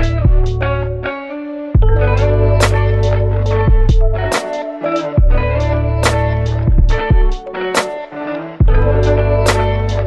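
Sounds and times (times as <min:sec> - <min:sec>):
guitar-led music with drums: 0:00.0 - 0:10.0.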